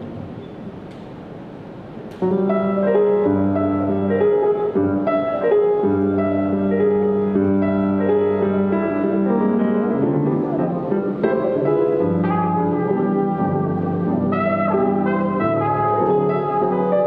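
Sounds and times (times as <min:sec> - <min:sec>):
piano chords and melody: 0:02.1 - 0:17.0
small band playing live: 0:02.2 - 0:17.0.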